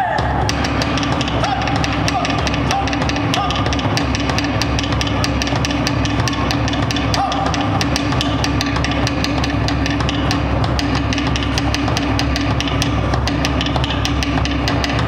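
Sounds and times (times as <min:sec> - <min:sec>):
fast drumming: 0:00.0 - 0:15.0
musical backing: 0:00.0 - 0:15.0.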